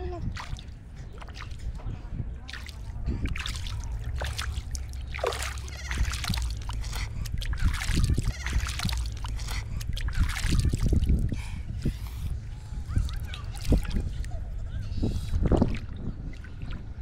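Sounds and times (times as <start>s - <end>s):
steady low rumble: 0.0s - 17.0s
water splashing and sloshing: 0.0s - 17.0s.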